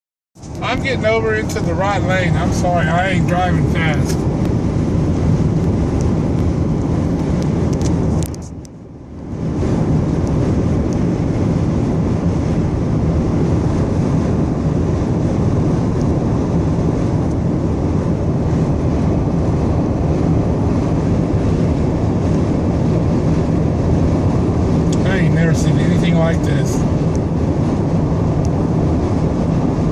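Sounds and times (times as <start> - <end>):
road and engine noise inside car: 0.4 - 29.9
strong wind: 0.4 - 29.9.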